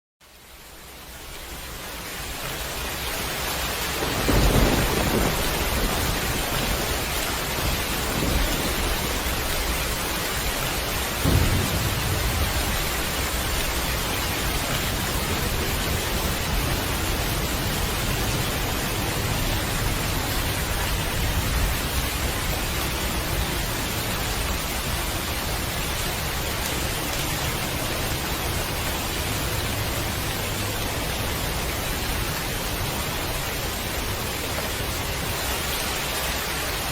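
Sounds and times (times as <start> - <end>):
heavy rain: 0.2 - 36.9
thunder rumbling: 3.7 - 34.2.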